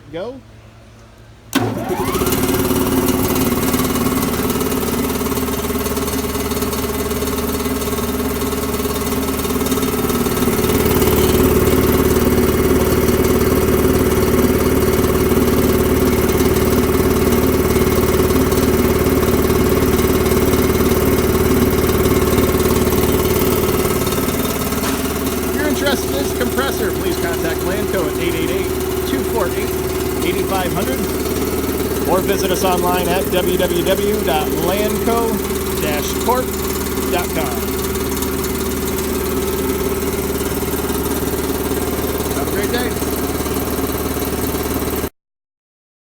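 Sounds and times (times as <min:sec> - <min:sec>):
electric air compressor humming: 0:01.6 - 0:45.1.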